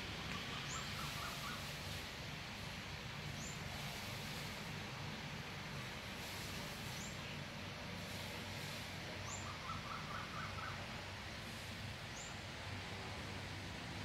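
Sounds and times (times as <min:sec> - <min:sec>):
outdoor background: 0:00.0 - 0:14.0.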